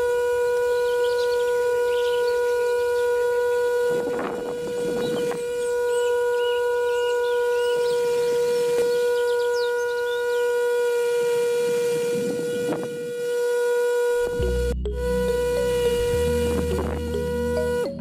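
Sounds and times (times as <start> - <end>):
small electric motor whine: 0.0 - 18.0.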